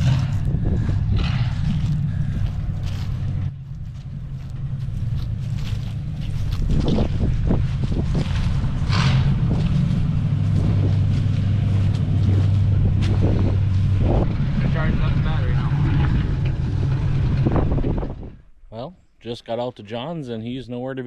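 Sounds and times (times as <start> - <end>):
vehicle engine running: 0.0 - 18.6.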